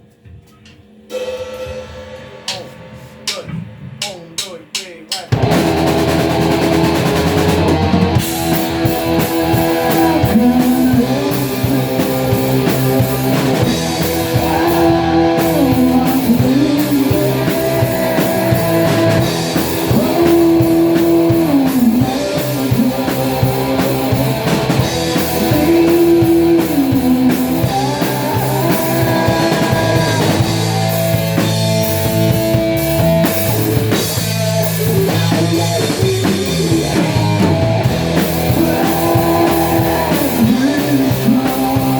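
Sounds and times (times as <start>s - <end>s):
rock band playing: 1.1s - 41.9s
electric guitar bending notes: 5.3s - 41.9s.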